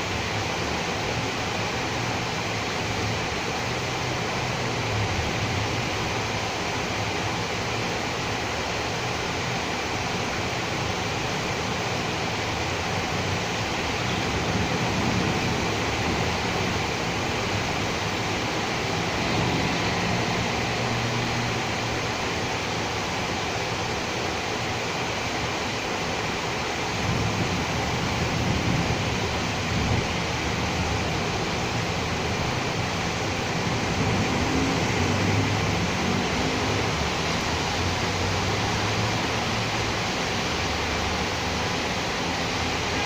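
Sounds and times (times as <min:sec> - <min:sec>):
steady rain falling: 0:00.0 - 0:43.0
vehicles passing on wet road: 0:00.0 - 0:43.0.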